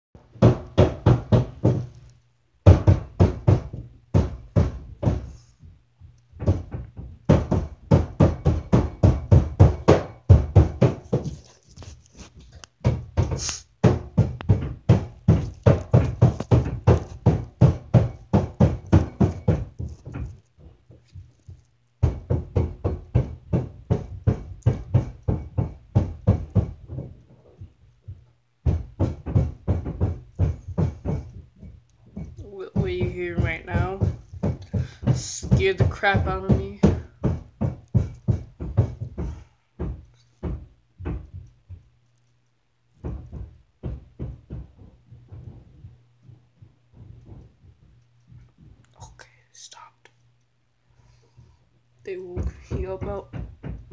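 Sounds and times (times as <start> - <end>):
roofers hammering: 0.2 - 2.0, 2.6 - 5.5, 6.3 - 42.0, 42.9 - 49.2, 52.1 - 53.9.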